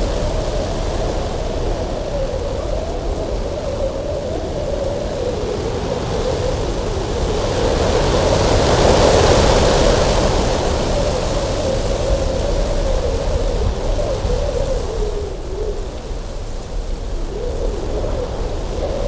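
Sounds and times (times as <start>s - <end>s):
strong wind whistling: 0.0s - 19.0s.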